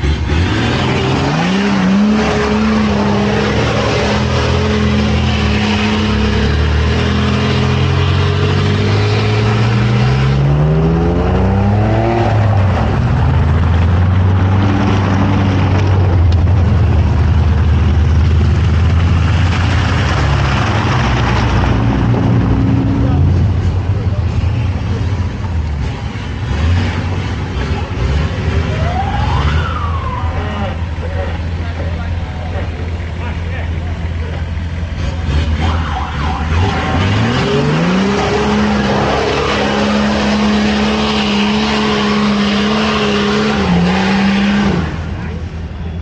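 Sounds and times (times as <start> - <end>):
car engine revving: 0.0 - 46.0
road noise: 0.0 - 46.0.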